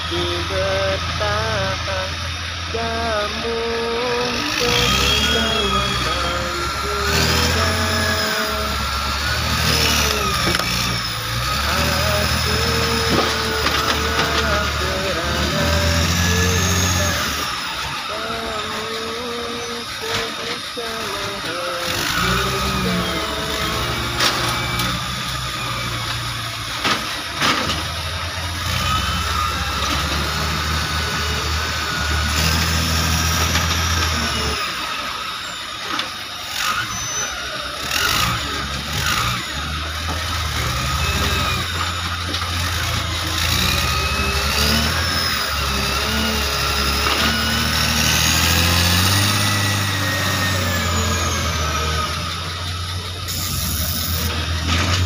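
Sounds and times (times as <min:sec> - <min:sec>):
diesel engine revving under load: 0:00.0 - 0:55.0
high squealing: 0:00.0 - 0:55.0.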